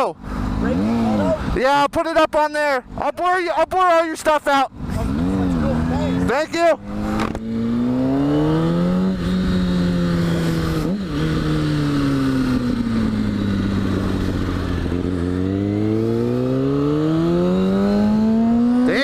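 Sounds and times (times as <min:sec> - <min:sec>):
motorcycle engine revving: 0:00.3 - 0:01.6, 0:04.8 - 0:19.0.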